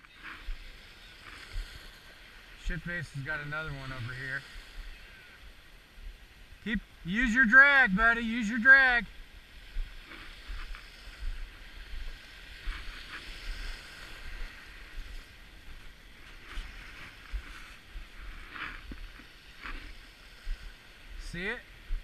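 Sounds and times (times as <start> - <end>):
wind rumbling on microphone: 0.0 - 7.1, 9.0 - 22.0
waves washing over gravel: 0.1 - 4.8, 7.1 - 21.7.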